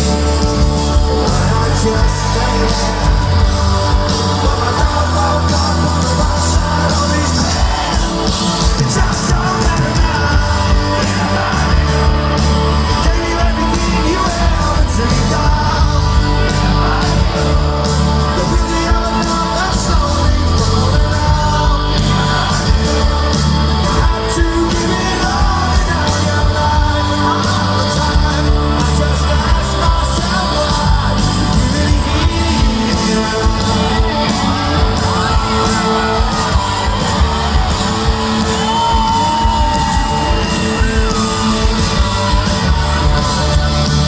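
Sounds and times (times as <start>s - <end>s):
live rock band playing: 0.0s - 44.0s
sung vocals: 0.0s - 44.0s.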